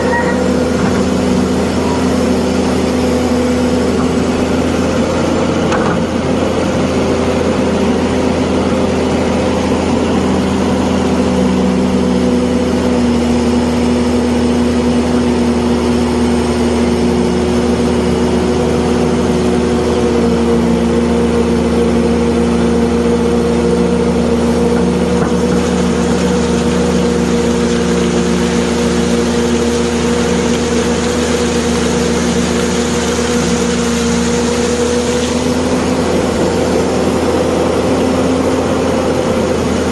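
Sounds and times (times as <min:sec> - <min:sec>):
excavator engine drone: 0:00.0 - 0:39.9.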